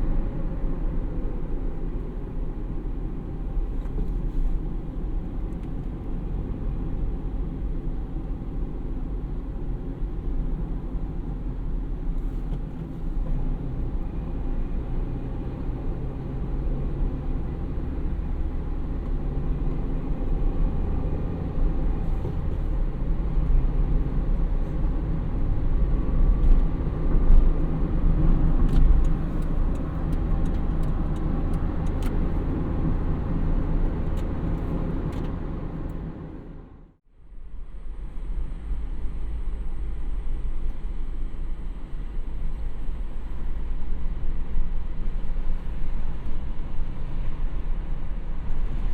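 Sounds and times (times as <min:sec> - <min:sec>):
car engine rumbling: 0:00.0 - 0:48.9.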